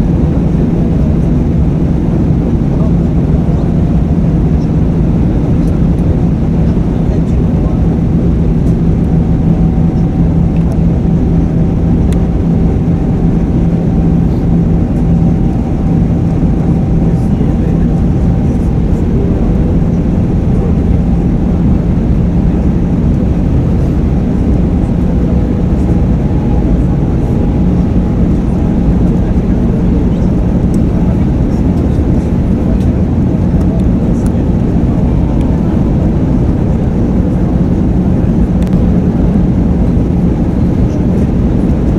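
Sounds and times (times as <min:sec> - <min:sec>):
airflow and jet engines drone: 0:00.0 - 0:41.9
low hum: 0:00.0 - 0:41.9.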